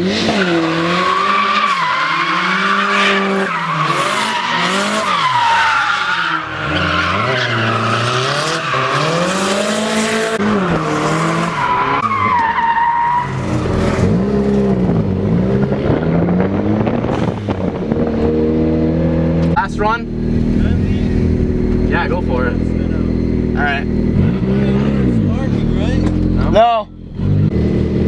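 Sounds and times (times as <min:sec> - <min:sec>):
tires squealing: 0:00.0 - 0:26.6
car engine revving: 0:00.0 - 0:28.0.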